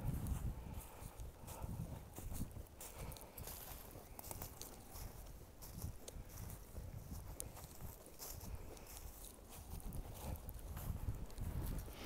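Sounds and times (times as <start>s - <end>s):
footsteps crunching dry leaves: 0.0s - 12.0s.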